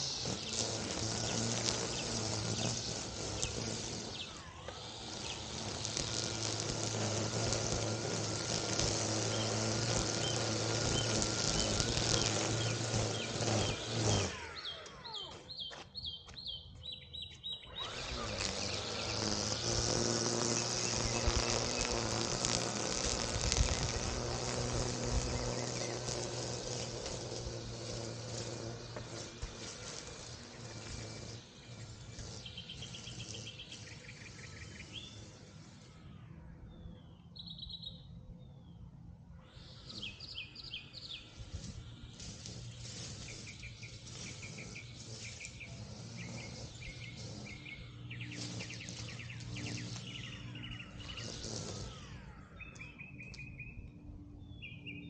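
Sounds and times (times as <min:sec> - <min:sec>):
lawn equipment motor humming: 0:00.0 - 0:55.0.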